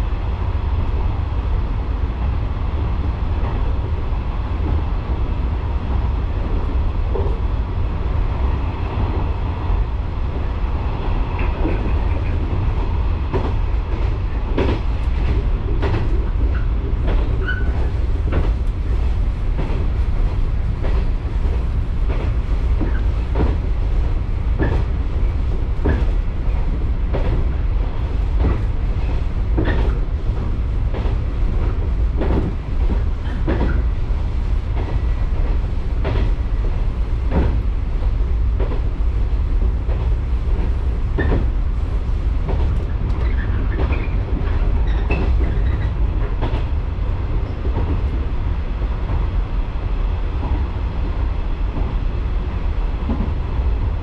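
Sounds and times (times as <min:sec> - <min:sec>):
train rumble: 0:00.0 - 0:54.0
rail joint clacks: 0:06.1 - 0:49.3, 0:52.6 - 0:53.6.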